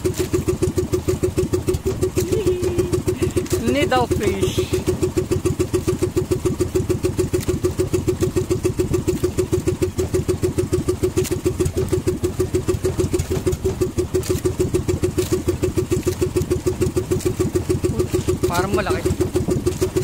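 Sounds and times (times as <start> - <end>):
boat engine putter: 0.0 - 20.0.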